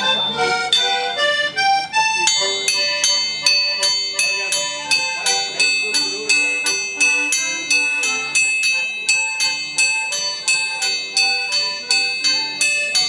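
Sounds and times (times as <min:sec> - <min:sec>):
accordion tune: 0:00.0 - 0:13.0
hammers striking anvil: 0:02.2 - 0:13.0.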